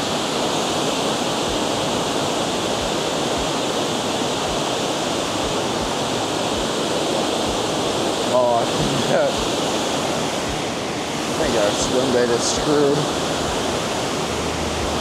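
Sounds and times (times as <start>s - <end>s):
water rushing over a spillway: 0.0s - 15.0s.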